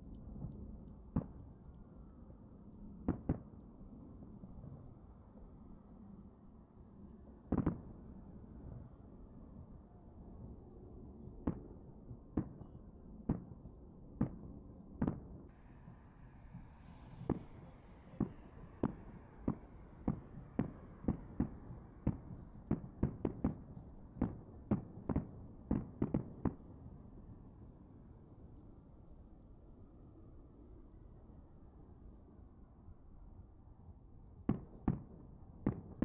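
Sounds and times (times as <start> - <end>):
low steady background noise: 0.0 - 36.0.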